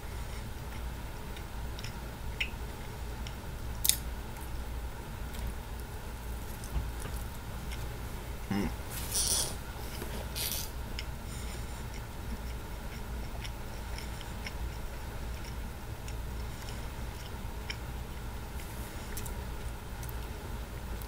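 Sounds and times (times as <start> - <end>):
steady low hum: 0.0 - 21.0
person chewing food: 0.2 - 4.6, 5.2 - 21.0.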